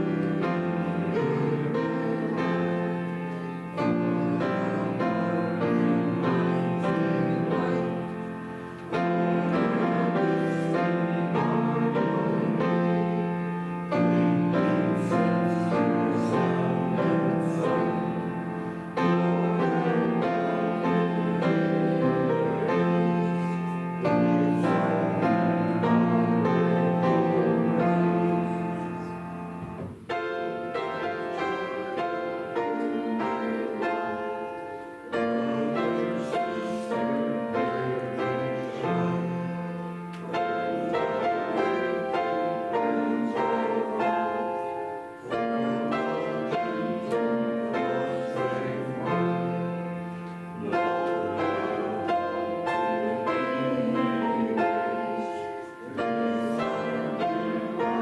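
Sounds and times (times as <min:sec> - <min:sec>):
piano playing hymn chords: 0:00.0 - 0:58.0.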